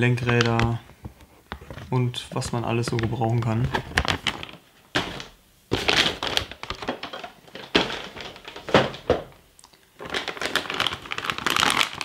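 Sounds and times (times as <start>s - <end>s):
plastic bags crinkling: 1.6s - 12.0s.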